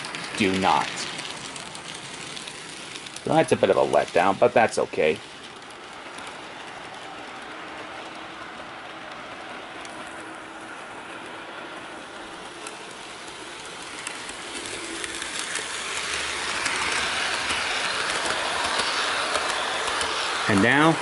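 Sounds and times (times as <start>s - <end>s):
clicks over rail joints: 0.0s - 21.0s
model trains running: 0.0s - 21.0s.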